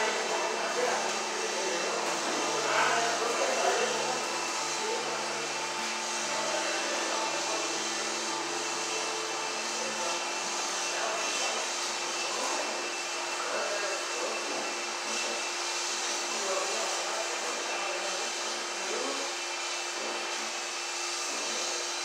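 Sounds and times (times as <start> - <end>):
electric fans whirring: 0.0 - 22.0.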